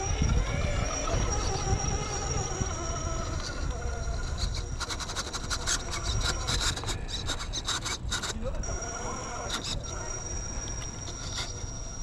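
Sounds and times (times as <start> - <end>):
high motor whine: 0.0 - 12.0
tires grinding over rock: 0.0 - 12.0.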